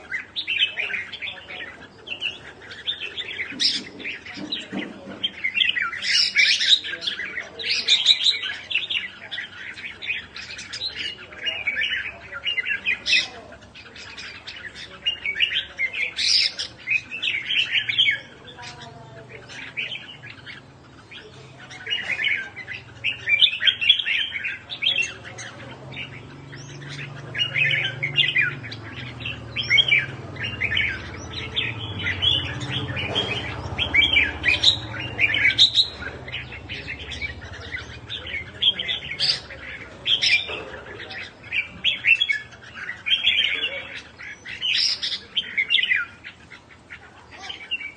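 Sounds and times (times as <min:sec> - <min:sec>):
songbird chirping and singing: 0:00.0 - 0:47.9.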